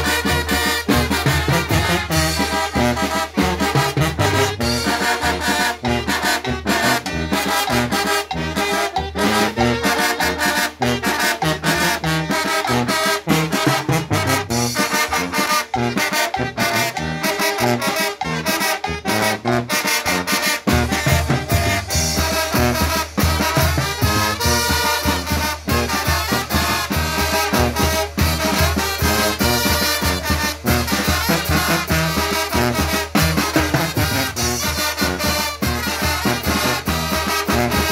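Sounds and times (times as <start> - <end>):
brass band playing dance tune: 0.0 - 37.9
drums and cymbal beat: 0.0 - 37.9.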